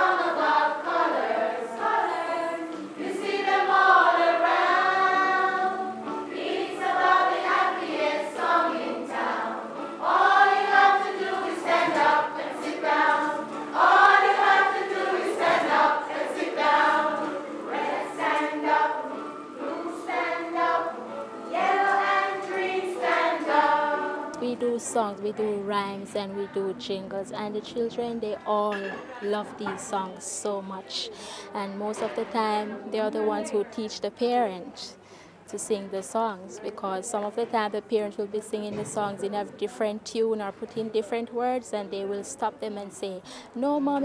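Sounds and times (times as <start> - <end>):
group singing a children's song: 0.0 - 35.0, 35.6 - 44.0.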